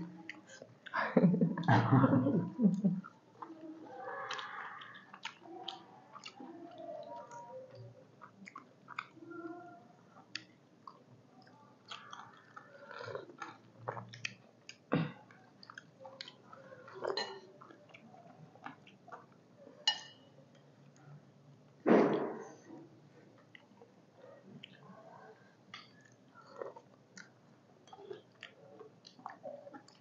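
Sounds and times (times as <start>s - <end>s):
people chewing: 0.0s - 30.0s.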